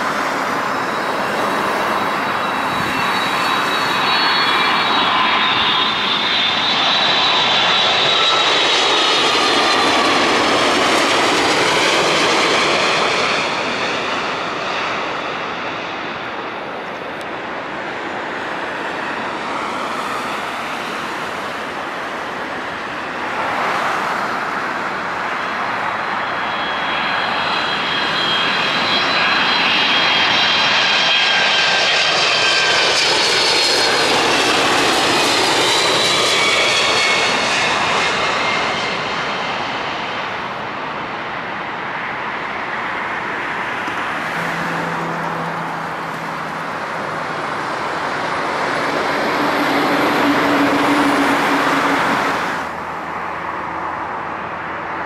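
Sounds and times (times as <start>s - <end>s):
earlier airliner noise: 0.0s - 55.0s
jet engines whining overhead: 0.0s - 55.0s.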